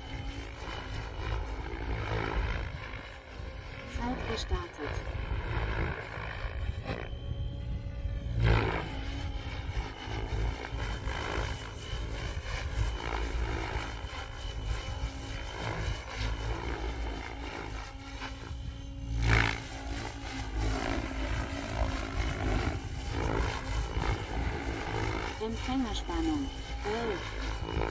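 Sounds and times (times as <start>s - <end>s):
rc helicopter rotor whine: 0.0s - 27.9s.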